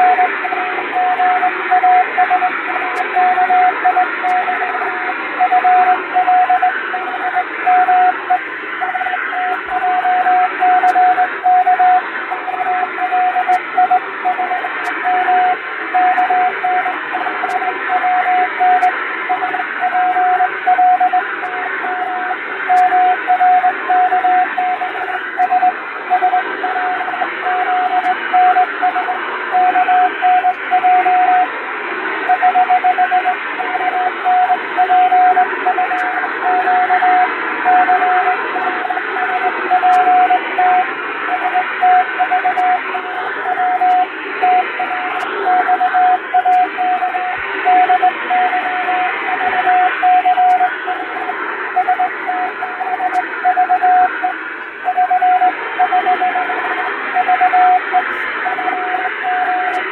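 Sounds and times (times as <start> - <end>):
morse code beeping tone: 0.0 - 4.8, 5.4 - 31.5, 32.3 - 59.9.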